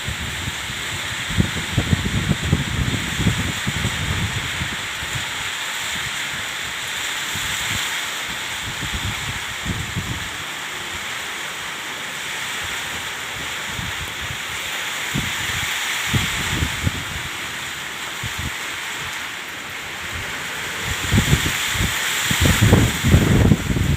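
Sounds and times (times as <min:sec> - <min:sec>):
wind buffeting microphone: 0:00.0 - 0:11.1, 0:12.6 - 0:23.9
water rushing: 0:00.0 - 0:23.9
wind: 0:00.0 - 0:23.9.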